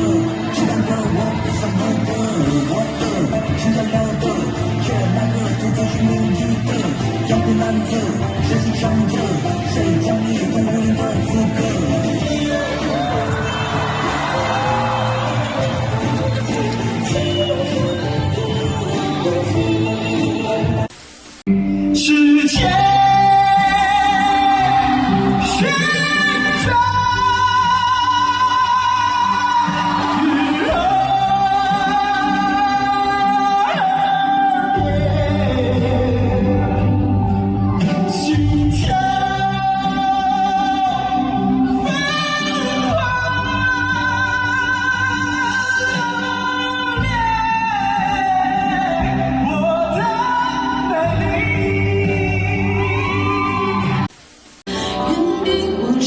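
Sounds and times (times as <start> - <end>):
backing track: 0.0 - 56.0.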